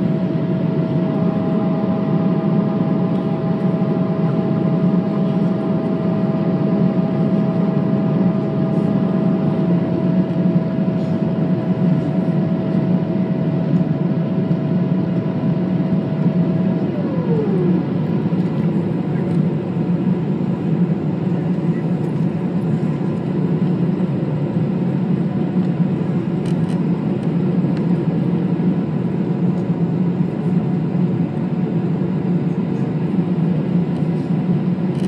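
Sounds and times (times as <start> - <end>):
airplane cabin airflow and engines: 0.0 - 35.0
held whine: 0.0 - 35.0.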